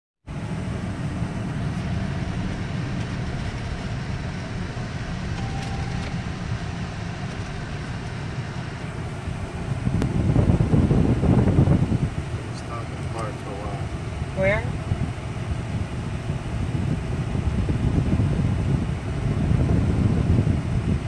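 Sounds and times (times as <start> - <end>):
car road and engine rumble: 0.2 - 21.0.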